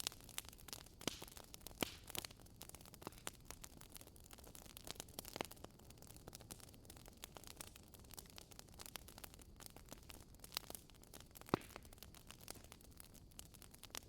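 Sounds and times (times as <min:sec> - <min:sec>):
wood fire crackling in fireplace: 0:00.0 - 0:14.0.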